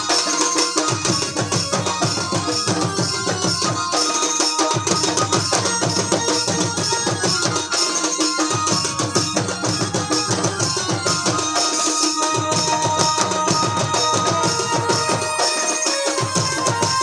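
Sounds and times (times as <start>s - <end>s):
barrel drums played by hand: 0.0s - 17.0s
held keyboard melody: 0.0s - 17.0s.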